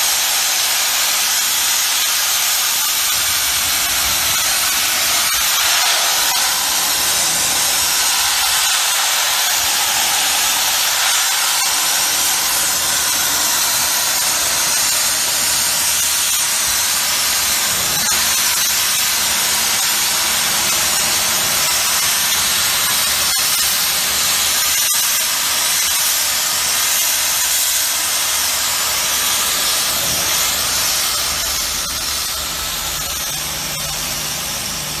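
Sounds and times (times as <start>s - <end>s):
pressure washer spraying metal: 0.0s - 35.0s.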